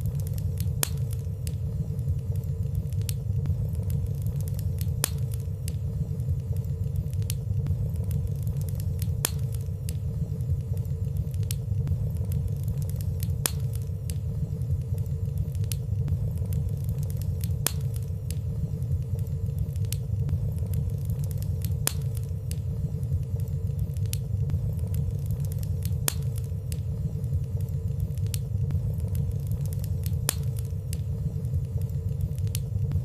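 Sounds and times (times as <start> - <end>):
fireplace fire crackling: 0.0 - 33.0
sharp ticks from fire: 0.0 - 33.0.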